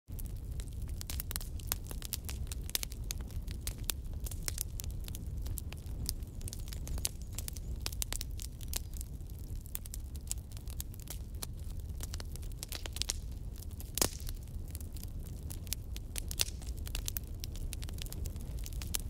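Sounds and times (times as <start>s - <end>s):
crackles and pops: 0.1s - 19.0s.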